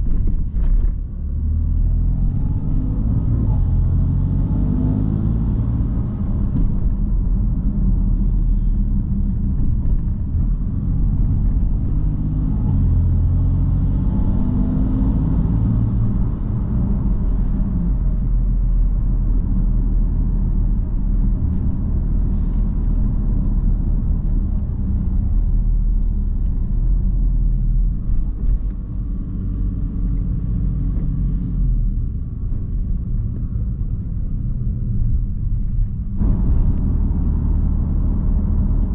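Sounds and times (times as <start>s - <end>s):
car engine and exhaust running: 5.5s - 14.6s, 15.3s - 38.9s.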